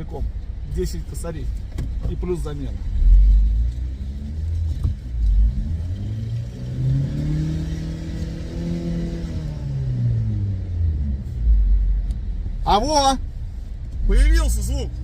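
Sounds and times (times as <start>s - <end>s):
car engine revving: 1.4s - 15.0s.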